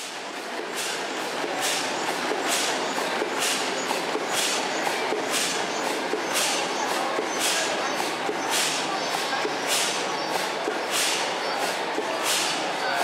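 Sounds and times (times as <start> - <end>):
steam engine chuffing: 0.0 - 13.0.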